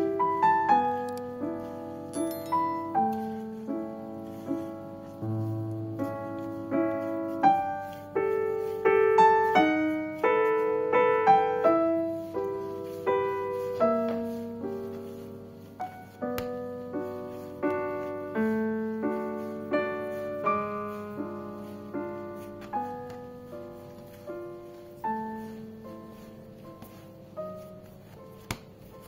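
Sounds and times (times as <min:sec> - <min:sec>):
slow gentle piano melody: 0:00.0 - 0:29.0.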